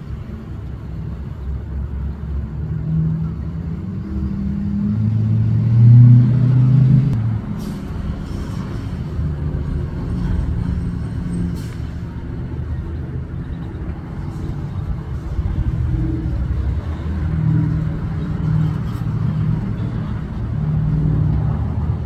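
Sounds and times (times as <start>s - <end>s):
low engine rumble with hum: 0.0s - 22.0s.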